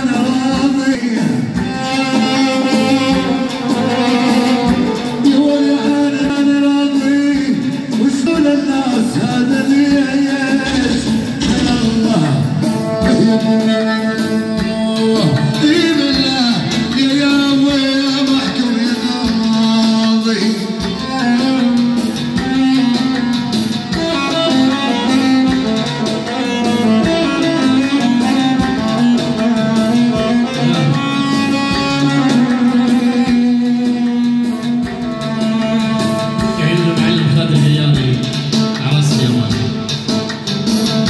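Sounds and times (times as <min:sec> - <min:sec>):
electronic keyboard melody: 0:00.0 - 0:41.0.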